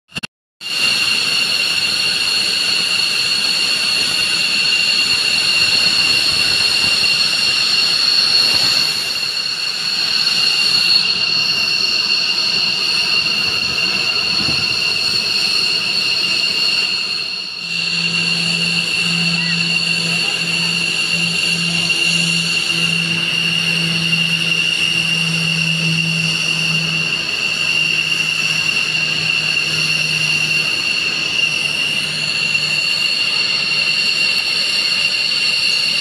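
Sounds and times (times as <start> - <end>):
rushing engine roar: 0.1 - 36.0
turbine engine whine: 0.1 - 36.0.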